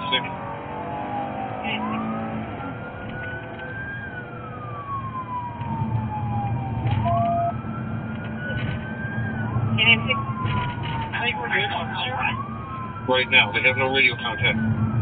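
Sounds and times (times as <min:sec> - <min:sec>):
engine and road noise: 0:00.0 - 0:15.0
siren wailing: 0:00.0 - 0:15.0.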